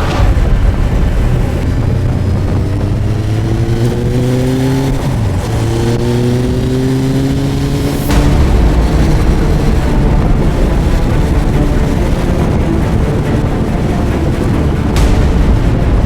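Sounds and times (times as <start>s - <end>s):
motorcycle engine accelerating: 0.0s - 16.0s
wind noise: 0.0s - 16.0s.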